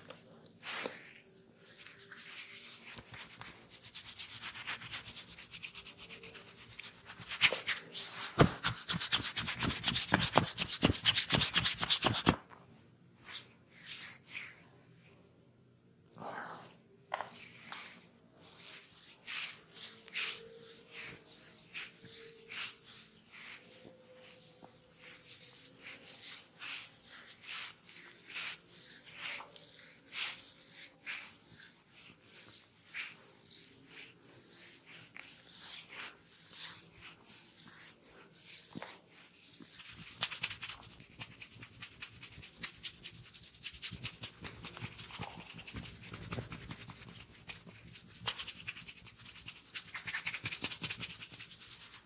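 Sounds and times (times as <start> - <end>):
scalp being scratched: 0.6 - 12.4, 18.7 - 52.0.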